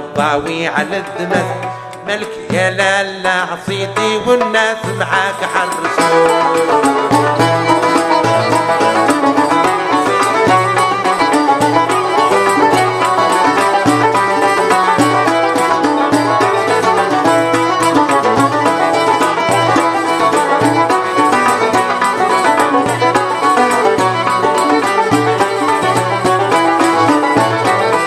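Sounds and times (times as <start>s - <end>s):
banjo melody: 0.0s - 28.0s
frame drum beat: 0.0s - 28.0s
lute: 0.0s - 28.0s
violins: 0.0s - 28.0s.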